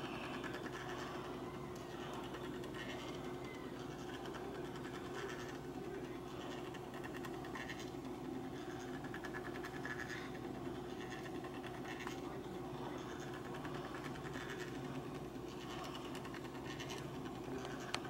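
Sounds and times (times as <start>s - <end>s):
clock motor humming: 0.0s - 18.0s.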